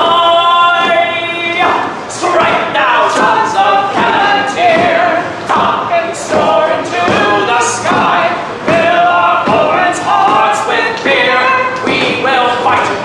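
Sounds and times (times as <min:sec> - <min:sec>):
man singing a cappella: 0:00.0 - 0:13.0.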